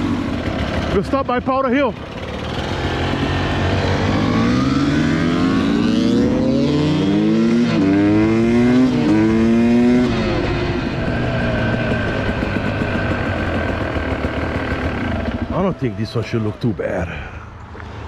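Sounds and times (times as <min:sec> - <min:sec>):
dirt bike engine revving: 0:00.0 - 0:16.6.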